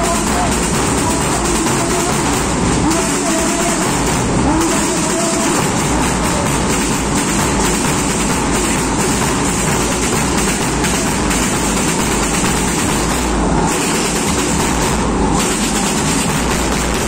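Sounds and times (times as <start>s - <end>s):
marching drum band: 0.0s - 17.0s.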